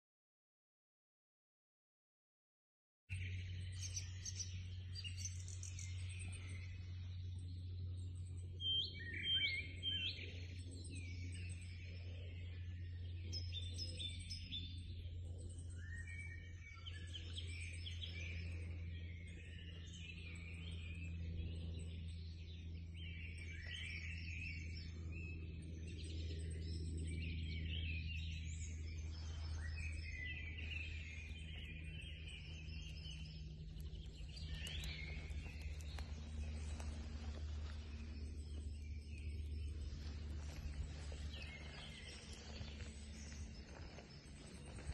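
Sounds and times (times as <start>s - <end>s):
low rumble: 3.1s - 44.9s
songbirds singing and calling: 3.1s - 44.9s.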